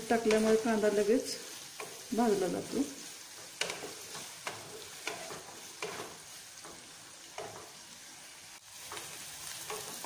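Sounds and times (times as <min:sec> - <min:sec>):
onion sizzling in oil: 0:00.0 - 0:10.0
stirring scraping the pan: 0:00.1 - 0:10.0.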